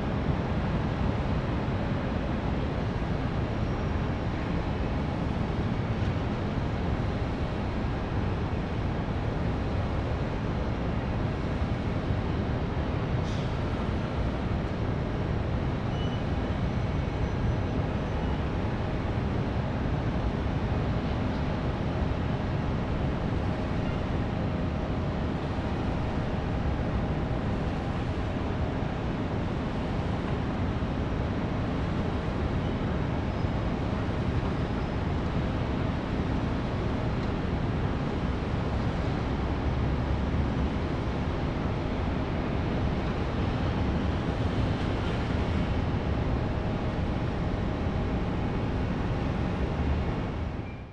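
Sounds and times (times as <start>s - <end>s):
distant city traffic hum: 0.0s - 50.9s.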